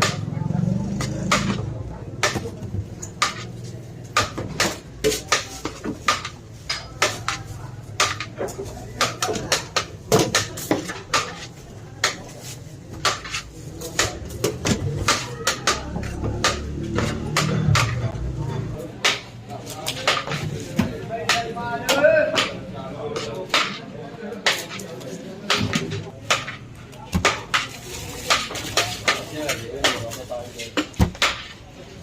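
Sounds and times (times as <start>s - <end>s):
metal utensils clanking on pots: 2.2s - 12.4s, 13.0s - 31.6s.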